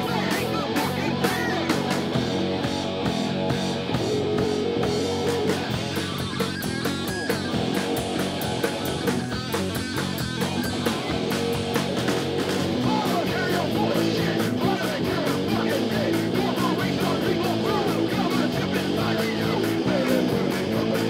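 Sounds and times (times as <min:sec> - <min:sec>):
bass guitar: 0:00.0 - 0:21.0
distorted electric guitars: 0:00.0 - 0:21.0
drum kit with cymbal beat: 0:00.0 - 0:21.0.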